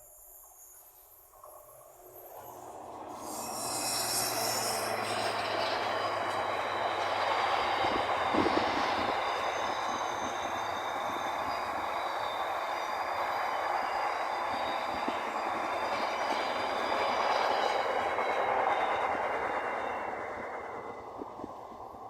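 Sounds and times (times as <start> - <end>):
train wheels on rails: 0.0 - 22.0
train clatter: 1.3 - 22.0.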